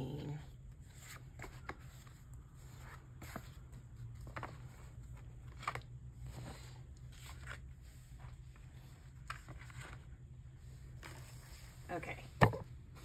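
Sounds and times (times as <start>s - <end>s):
low steady hum: 0.0s - 13.0s
photo cards rustling and clicking: 0.8s - 11.5s.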